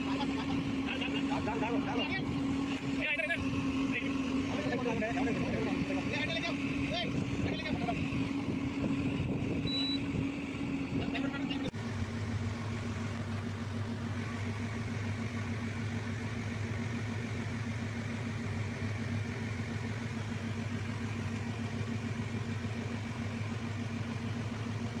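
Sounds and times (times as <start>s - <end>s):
crane diesel engine running: 0.0s - 25.0s.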